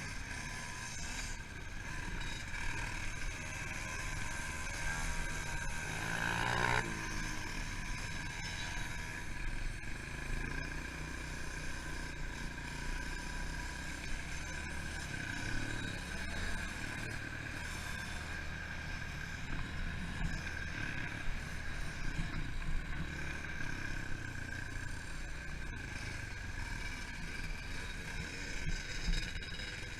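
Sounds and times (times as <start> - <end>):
pit bike engine running: 0.0 - 29.9.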